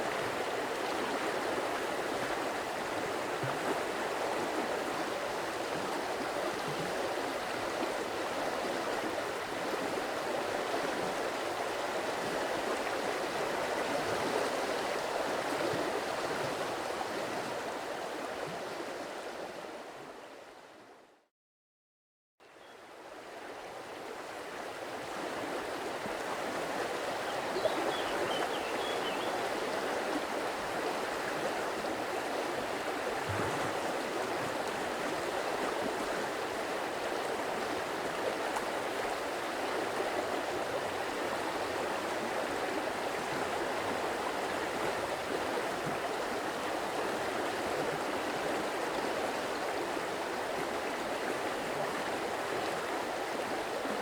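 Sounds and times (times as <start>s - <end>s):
stream water flowing: 0.0s - 20.1s, 22.8s - 54.0s.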